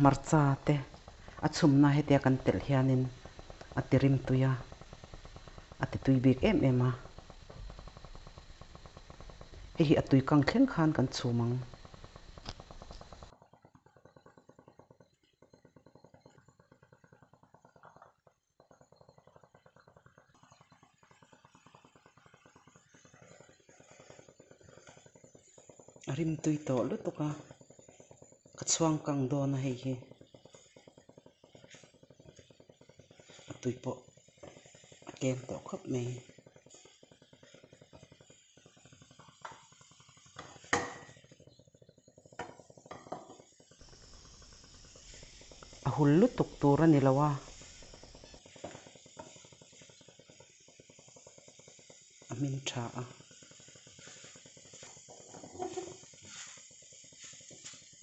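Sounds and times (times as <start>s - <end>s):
food simmering in water: 0.0s - 58.0s
light sizzle: 0.0s - 58.0s.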